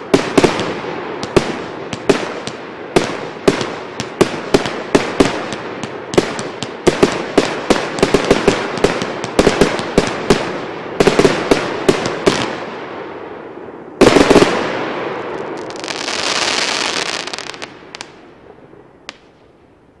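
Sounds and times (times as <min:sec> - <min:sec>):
fireworks bangs: 0:00.0 - 0:13.2, 0:14.0 - 0:18.3.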